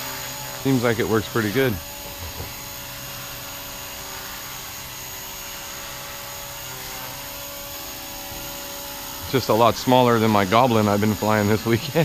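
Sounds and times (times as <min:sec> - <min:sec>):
rc helicopter high whine: 0:00.0 - 0:12.0.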